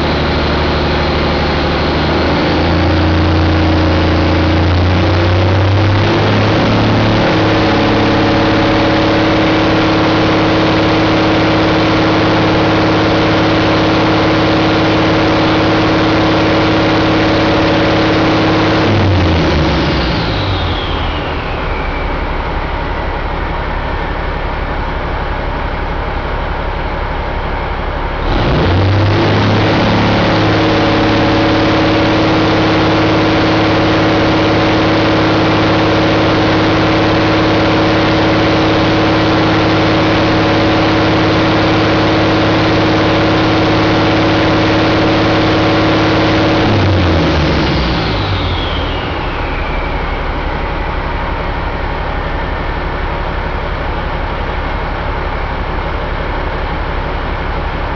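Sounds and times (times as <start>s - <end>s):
diesel engine revving: 0.0s - 57.9s
high engine whine: 0.0s - 57.9s.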